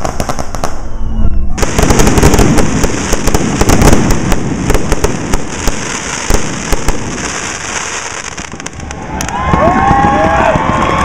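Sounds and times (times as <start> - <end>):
fireworks crackling and banging: 0.0 - 1.0, 1.6 - 11.0.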